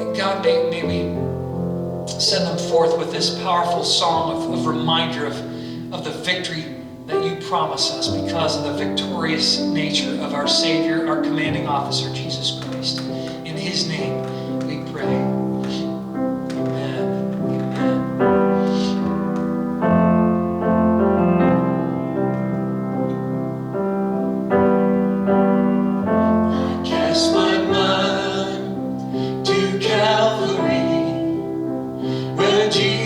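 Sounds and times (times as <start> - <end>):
held keyboard chords: 0.0 - 33.0
melodic keyboard notes: 0.0 - 33.0.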